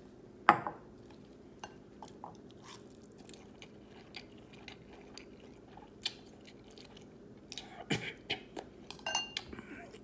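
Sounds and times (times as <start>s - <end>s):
quiet chewing: 1.0s - 10.0s.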